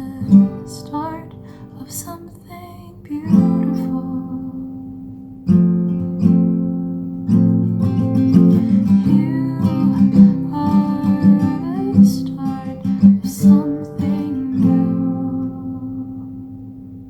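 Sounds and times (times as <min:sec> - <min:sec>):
acoustic guitar strumming and picking: 0:00.0 - 0:17.0.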